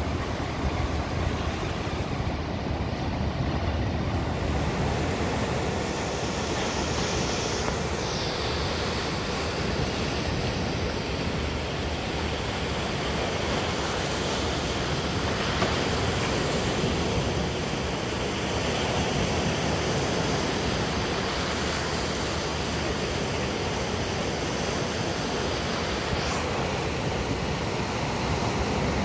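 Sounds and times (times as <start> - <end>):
small waves breaking on shore: 0.0 - 29.0.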